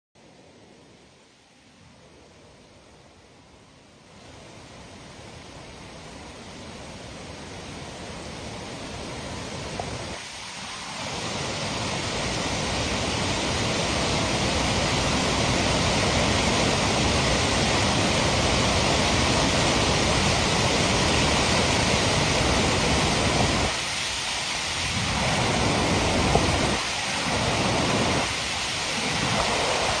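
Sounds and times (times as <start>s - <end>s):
floodwater rushing: 4.0s - 30.0s.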